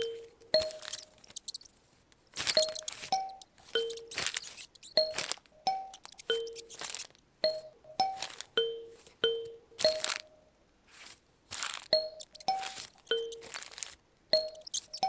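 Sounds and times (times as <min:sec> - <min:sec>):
paper rustling: 0:00.0 - 0:07.2, 0:08.0 - 0:09.2, 0:09.8 - 0:10.3, 0:10.9 - 0:15.0.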